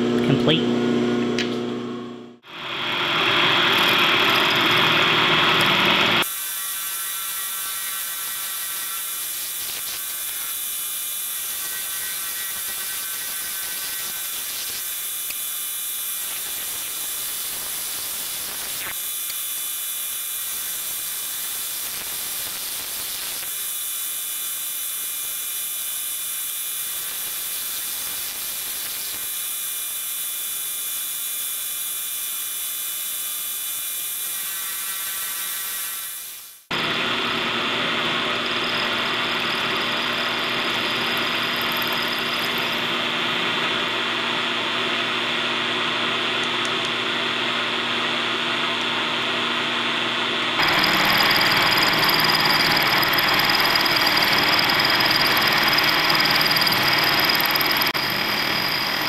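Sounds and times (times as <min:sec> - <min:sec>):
milling machine whine: 0:02.4 - 0:20.6, 0:25.6 - 0:59.0.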